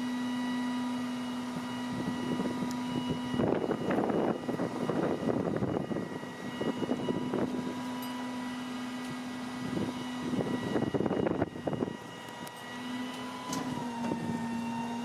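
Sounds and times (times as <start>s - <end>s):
high steady whine: 0.0s - 15.0s
truck engine hum: 0.0s - 15.0s.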